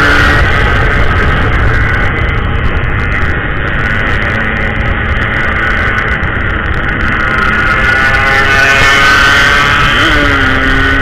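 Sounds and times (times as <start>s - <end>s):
two-stroke motorcycle engine: 0.0s - 11.0s
wind rumble on microphone: 0.0s - 11.0s.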